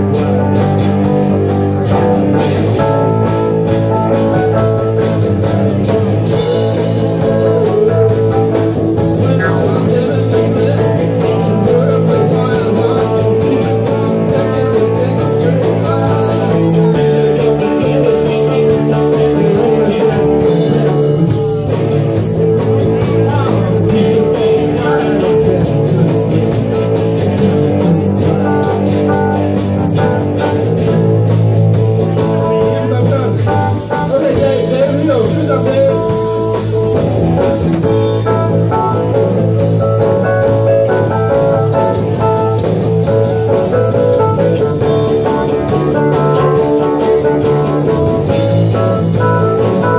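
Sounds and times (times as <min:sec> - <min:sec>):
drums: 0:00.0 - 0:49.9
electric guitar: 0:00.0 - 0:49.9.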